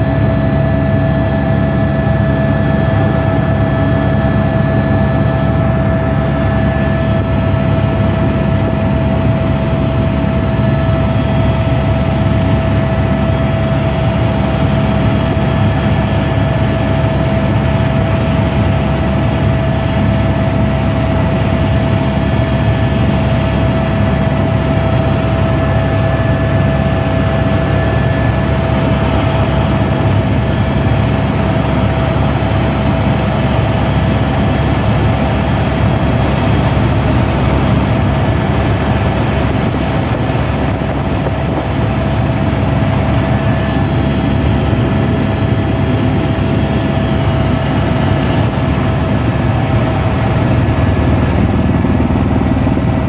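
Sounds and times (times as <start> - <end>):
constant held tone: 0.0 - 53.0
helicopter engine and rotor drone: 0.0 - 53.0.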